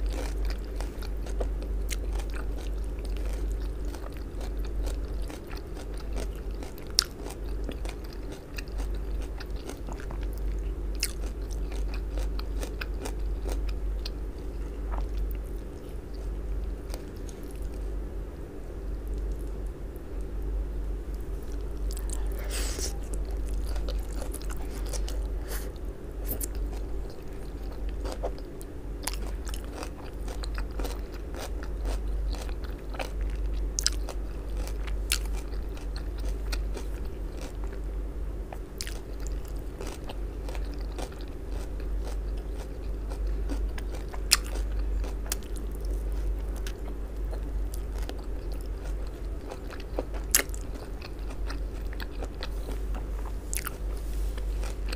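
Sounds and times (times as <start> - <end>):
chewing crisp cabbage: 0.0 - 18.0, 21.1 - 37.8, 38.4 - 54.9
low hum: 0.0 - 54.9.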